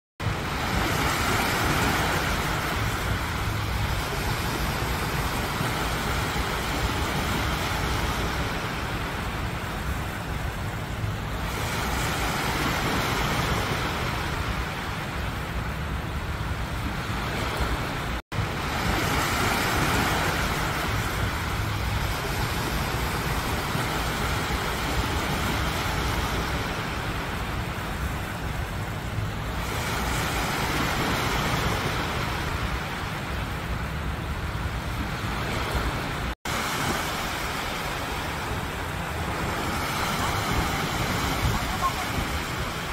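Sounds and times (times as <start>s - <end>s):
waves washing onto sand beach: 0.2s - 42.9s.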